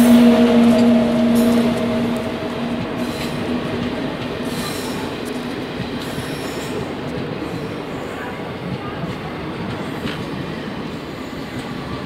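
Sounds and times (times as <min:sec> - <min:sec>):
electric locomotive hum: 0:00.0 - 0:12.0
train coaches rushing past: 0:00.0 - 0:12.0.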